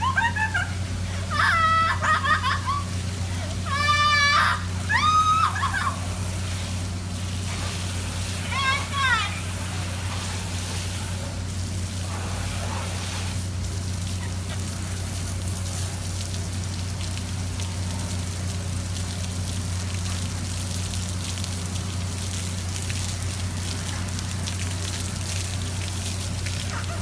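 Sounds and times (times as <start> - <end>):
constant low hum: 0.0 - 27.0
running water rushing: 0.0 - 27.0.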